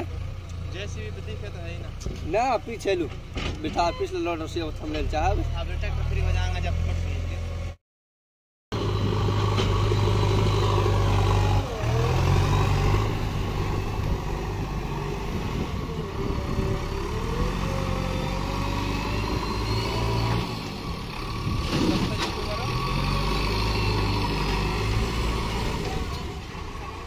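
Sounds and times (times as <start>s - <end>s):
diesel engine under load: 0.0s - 7.8s, 8.7s - 27.0s.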